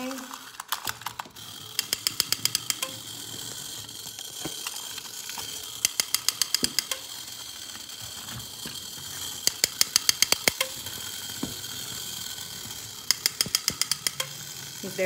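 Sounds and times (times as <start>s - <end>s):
spring motor whirring: 0.0s - 15.0s
rapid ratchety clicking: 0.1s - 8.1s, 8.8s - 15.0s.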